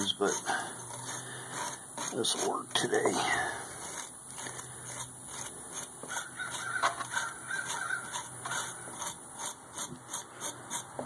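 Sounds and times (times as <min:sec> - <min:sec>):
wire brush scrubbing metal: 0:00.0 - 0:11.0.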